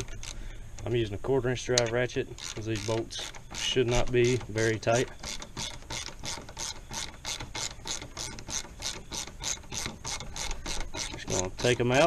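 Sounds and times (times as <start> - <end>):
ratchet clicking: 1.8 - 12.0.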